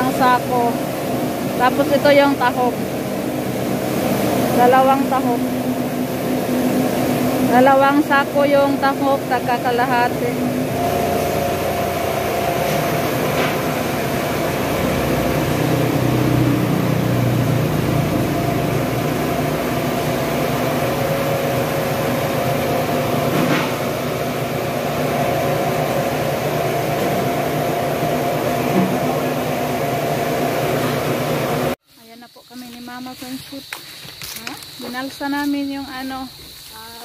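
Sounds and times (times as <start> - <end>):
grinding mill humming: 0.0 - 31.8.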